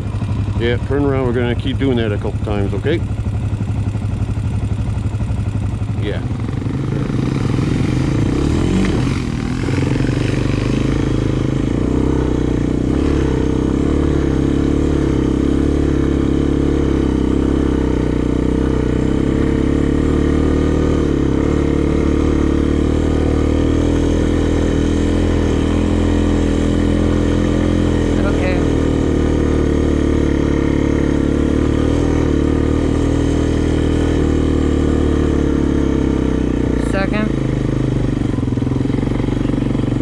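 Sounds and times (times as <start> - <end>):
atv engine running steadily: 0.0 - 40.0.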